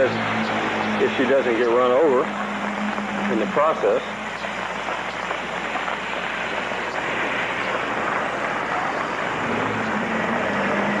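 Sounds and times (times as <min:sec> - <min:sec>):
heavy rain on wet street: 0:00.0 - 0:11.0
vehicle engine hum: 0:00.0 - 0:11.0.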